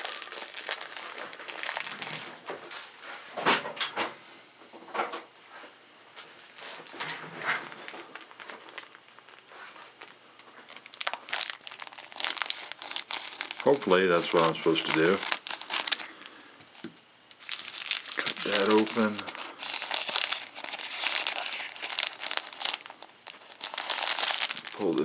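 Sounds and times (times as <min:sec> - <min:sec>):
plastic wrapping crinkling: 0:00.0 - 0:03.0, 0:06.2 - 0:25.0.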